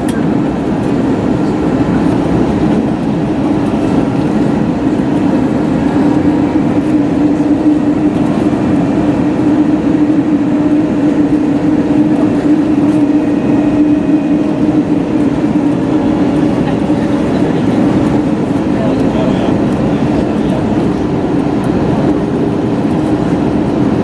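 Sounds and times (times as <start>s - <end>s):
aircraft cabin engine hum: 0.0s - 24.0s.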